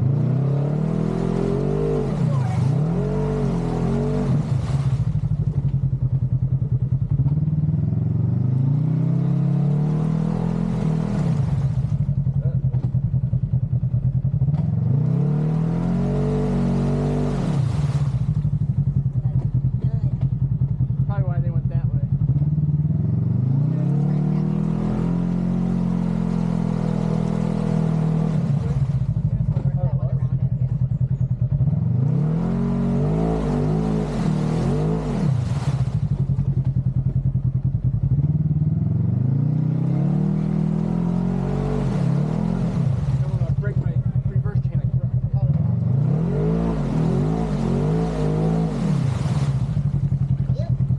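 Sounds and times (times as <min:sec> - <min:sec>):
engine revving: 0:00.0 - 0:20.4, 0:21.1 - 0:30.8, 0:31.4 - 0:50.9.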